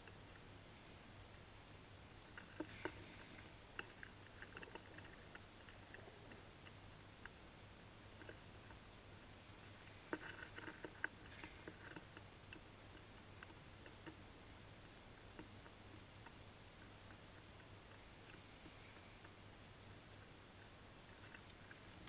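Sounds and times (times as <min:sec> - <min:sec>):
pigeons pecking on ledge: 0:02.2 - 0:22.0.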